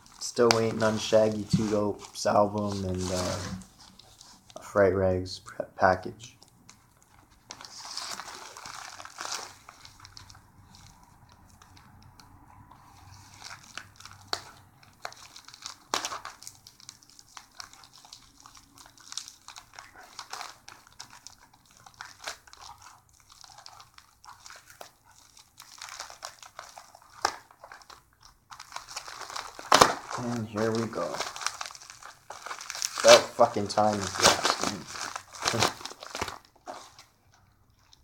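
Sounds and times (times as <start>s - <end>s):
plastic mailer crinkling: 0.0s - 4.7s, 6.3s - 38.0s.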